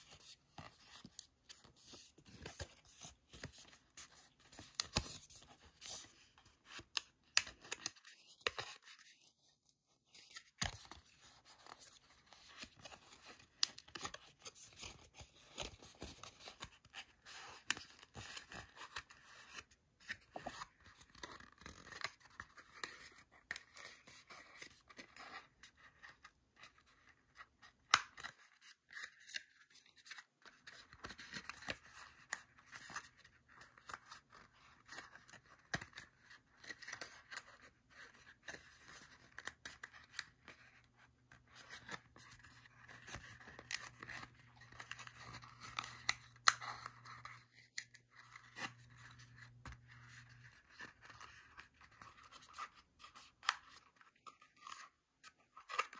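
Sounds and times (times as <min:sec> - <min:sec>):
cardstock rustling and clicking: 0:00.0 - 0:09.3, 0:10.1 - 0:55.9.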